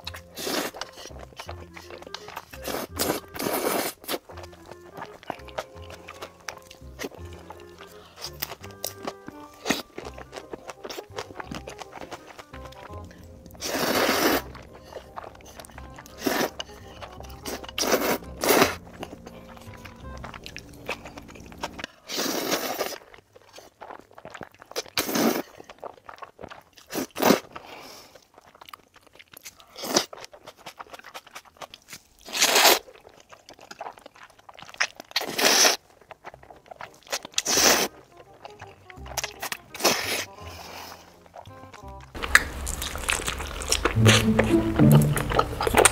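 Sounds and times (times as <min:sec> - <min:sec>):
slurping noodles: 0:00.0 - 0:28.5, 0:29.6 - 0:31.5, 0:32.2 - 0:45.9
quiet chewing: 0:00.0 - 0:45.9.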